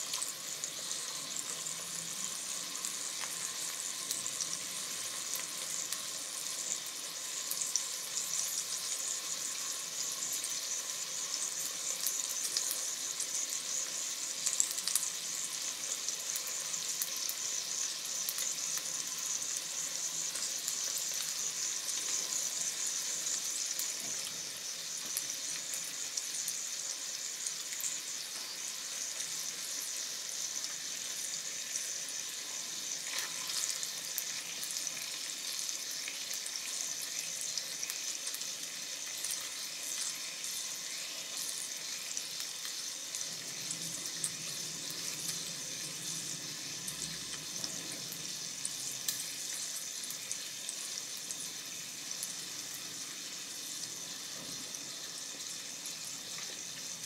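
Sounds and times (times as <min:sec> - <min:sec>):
steak sizzling on griddle: 0:00.0 - 0:57.0.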